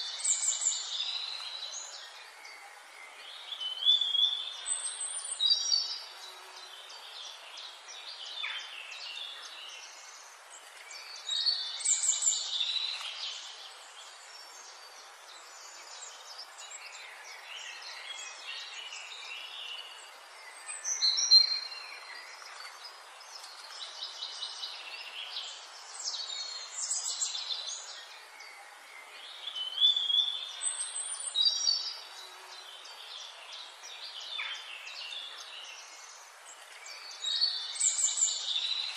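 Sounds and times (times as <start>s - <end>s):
small birds singing: 0.0s - 38.9s
steady background hiss: 0.0s - 38.9s.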